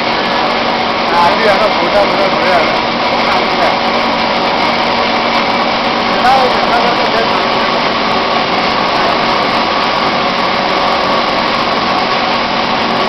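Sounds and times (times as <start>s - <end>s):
faint machine whine: 0.0s - 13.0s
machine hum and hiss: 0.0s - 13.0s.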